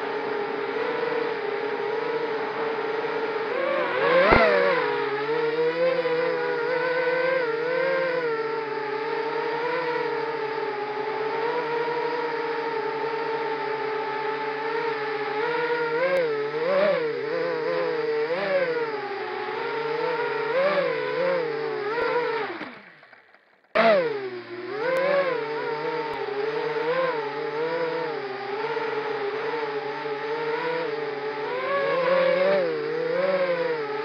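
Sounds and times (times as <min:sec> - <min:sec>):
drone motors whining: 0:00.0 - 0:34.0.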